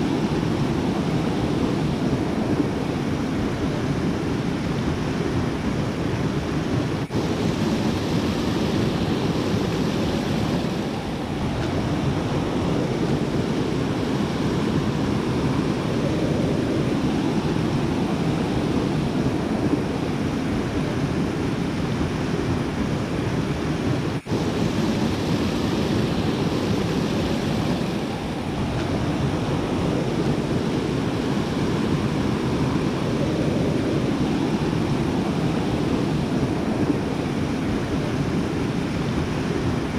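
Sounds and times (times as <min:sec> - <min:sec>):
river water cascading: 0:00.0 - 0:39.9.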